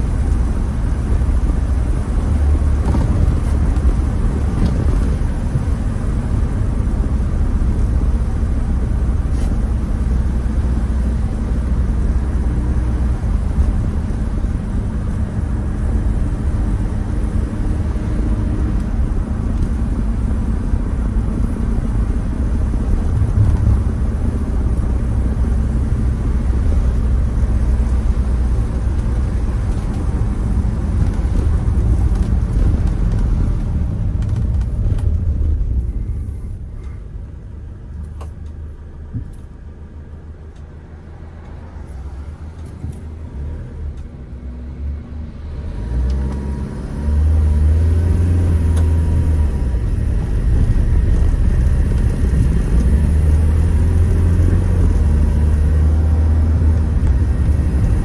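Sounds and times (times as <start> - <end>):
car driving on wet road: 0.0 - 58.0.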